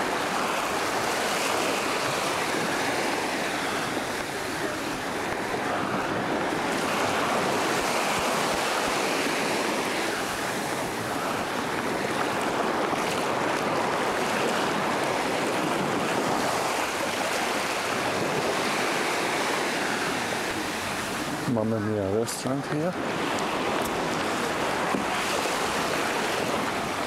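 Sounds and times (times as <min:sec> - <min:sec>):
waves lapping on beach: 0:00.0 - 0:27.0.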